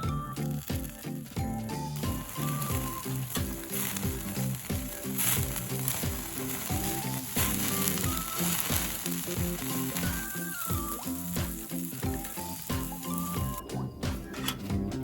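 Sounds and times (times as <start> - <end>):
pork sizzling over a campfire: 0.0 - 14.8
background music with regular beat: 0.0 - 15.0.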